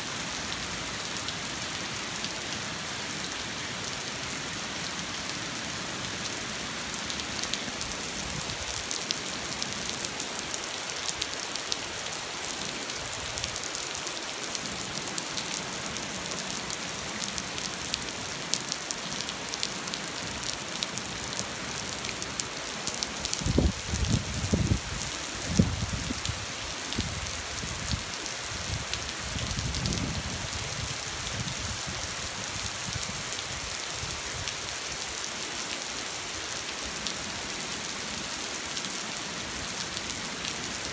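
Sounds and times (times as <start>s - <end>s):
rain pattering on street: 0.2s - 40.9s.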